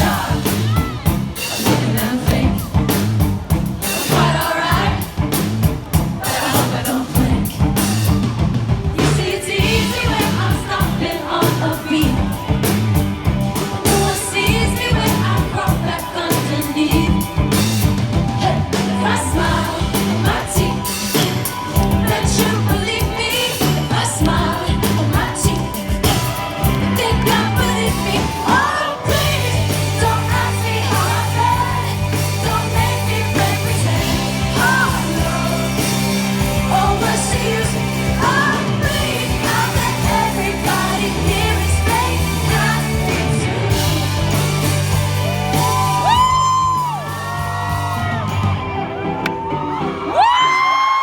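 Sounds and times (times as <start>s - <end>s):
person singing lead vocal: 0.0s - 3.2s, 3.8s - 5.4s, 6.2s - 8.2s, 8.9s - 13.0s, 13.6s - 47.8s
bass guitar: 0.0s - 51.0s
drums: 0.0s - 51.0s
pop-rock band playing: 0.0s - 51.0s.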